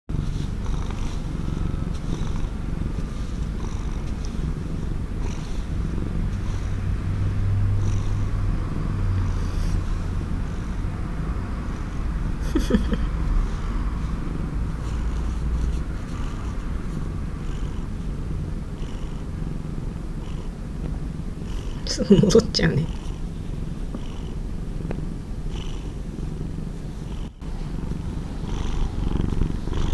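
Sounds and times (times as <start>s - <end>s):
cat purring: 0.1s - 29.9s.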